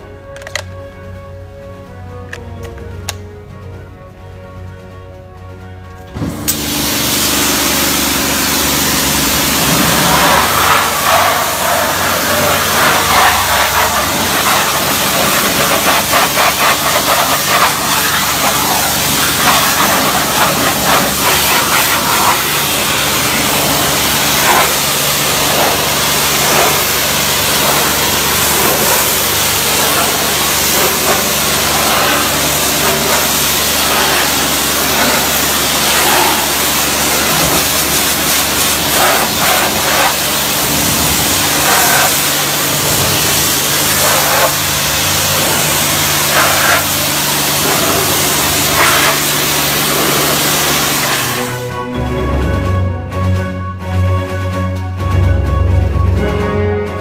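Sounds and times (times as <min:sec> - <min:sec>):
low machine hum: 0:00.8 - 0:57.0
pressure washer jet spraying: 0:06.0 - 0:51.8.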